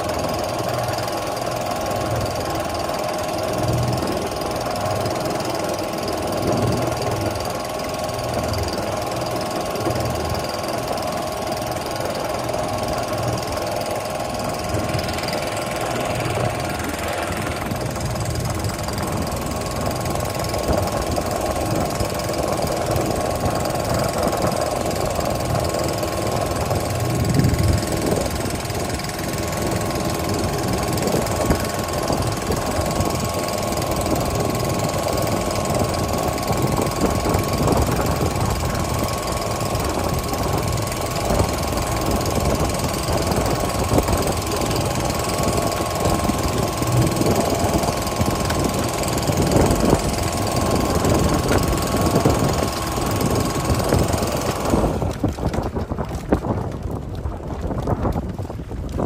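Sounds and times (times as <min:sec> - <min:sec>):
thin steady whine: 0:00.0 - 0:58.5
motor idling: 0:00.0 - 0:59.0.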